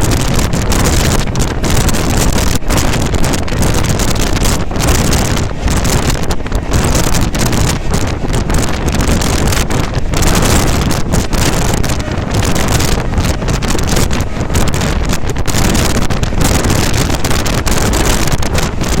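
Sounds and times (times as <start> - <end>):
express train running: 0.0 - 19.0
wind buffeting microphone: 0.0 - 19.0.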